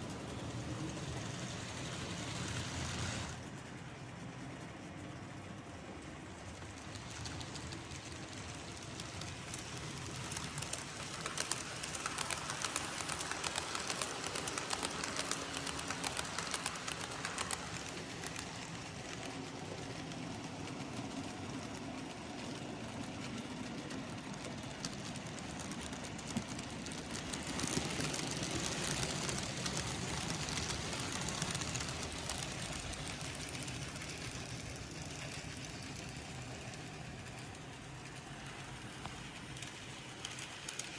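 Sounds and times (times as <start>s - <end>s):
wheels clicking over rail joints: 0.0s - 3.4s, 6.5s - 40.9s
model trains rolling on track: 0.0s - 40.9s.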